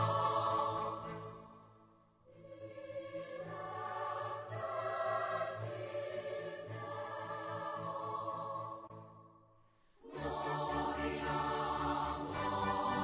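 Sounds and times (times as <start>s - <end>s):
choir-like voices holding chords: 0.0s - 13.0s.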